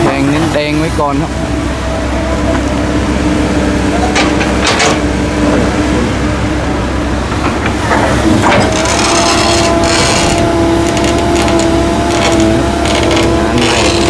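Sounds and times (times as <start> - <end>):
excavator engine whine: 0.0 - 14.0.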